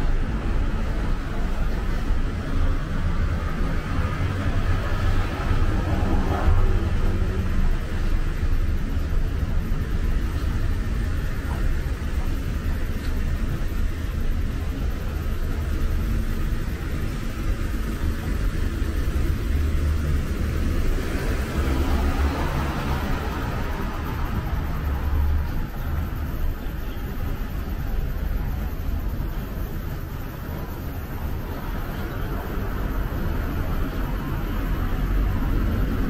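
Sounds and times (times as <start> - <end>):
hiss of passing cars: 0.0 - 36.0
low traffic rumble: 0.0 - 36.0.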